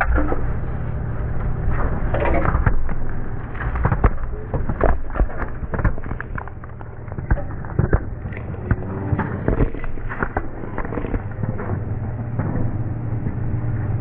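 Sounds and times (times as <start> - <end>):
road roller engine running: 0.0 - 14.0.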